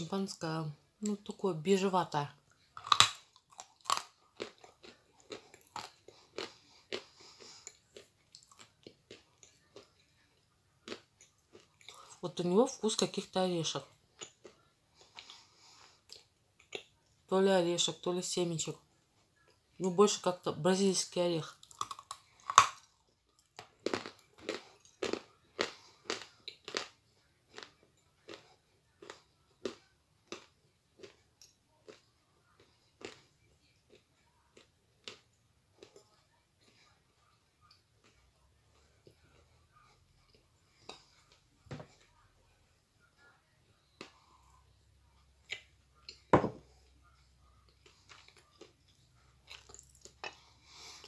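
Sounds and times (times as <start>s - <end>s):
crunching and chewing: 2.5s - 12.2s, 13.9s - 17.0s, 21.4s - 42.3s, 43.8s - 51.0s.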